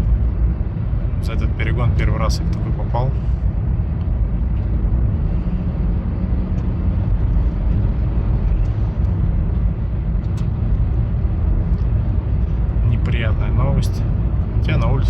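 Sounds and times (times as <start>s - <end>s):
car engine running: 0.0s - 15.0s
tyre and road noise: 0.0s - 15.0s.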